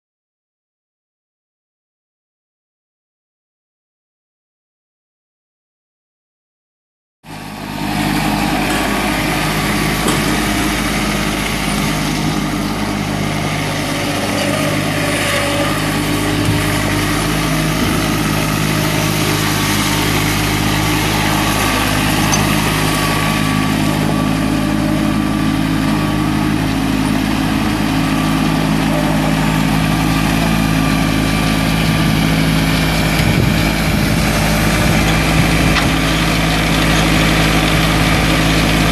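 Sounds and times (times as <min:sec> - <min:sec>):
tractor diesel engine running: 0:07.3 - 0:38.9.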